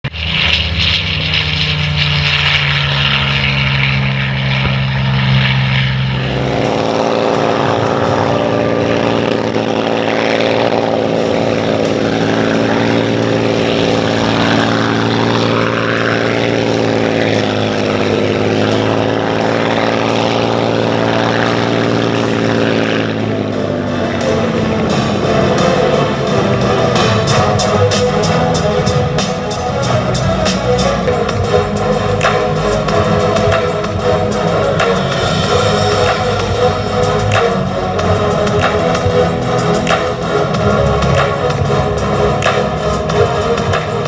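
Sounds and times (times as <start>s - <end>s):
aircraft engine in flight: 0.0s - 44.0s.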